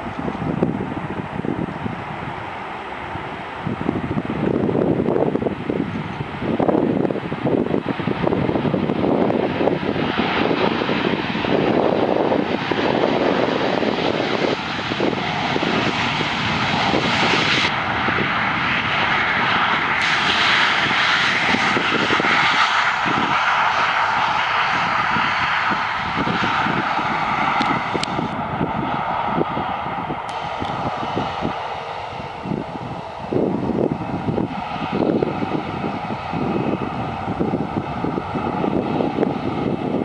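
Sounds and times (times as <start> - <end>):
jet engines in reverse thrust: 0.0 - 40.0.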